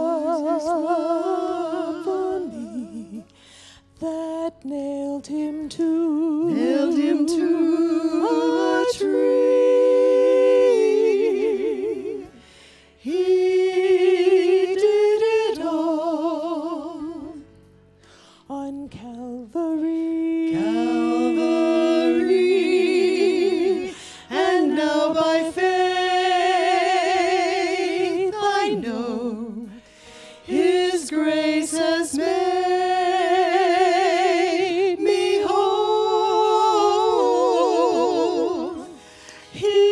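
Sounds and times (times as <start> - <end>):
women singing unaccompanied: 0.0 - 3.2, 4.0 - 12.3, 13.0 - 17.4, 18.5 - 29.8, 30.5 - 39.0, 39.6 - 39.9.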